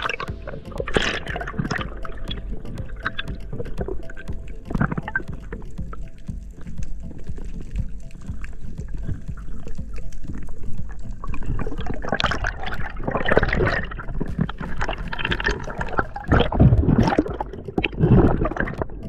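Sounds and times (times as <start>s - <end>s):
bubbling surges: 0.0s - 19.0s
water gurgling underwater: 0.0s - 19.0s.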